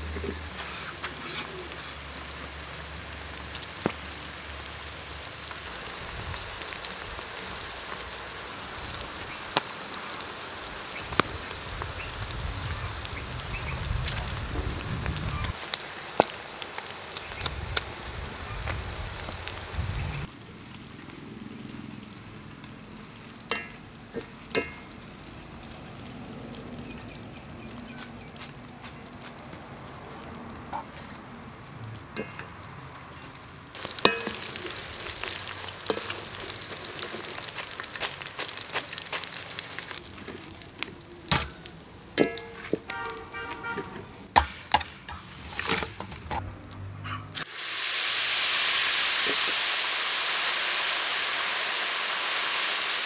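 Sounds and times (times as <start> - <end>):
deep-frying sizzle with pops: 0.0 - 30.9, 32.1 - 53.0.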